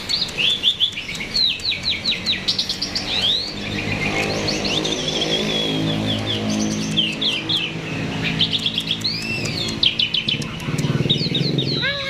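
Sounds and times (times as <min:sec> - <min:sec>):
starling singing: 0:00.0 - 0:12.0.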